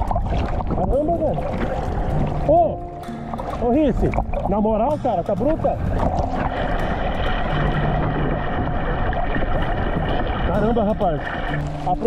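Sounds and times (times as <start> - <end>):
surf water rushing and sloshing: 0.0 - 12.0.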